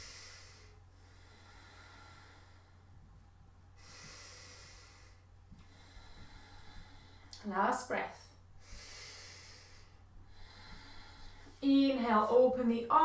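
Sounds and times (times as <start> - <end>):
person breathing softly: 0.0 - 7.4, 8.1 - 11.6
steady low hum: 0.0 - 13.0.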